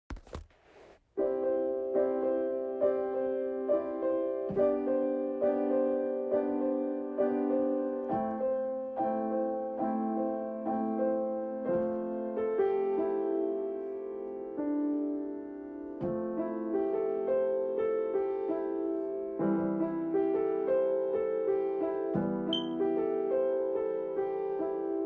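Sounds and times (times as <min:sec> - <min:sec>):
piano music: 0:01.2 - 0:25.0.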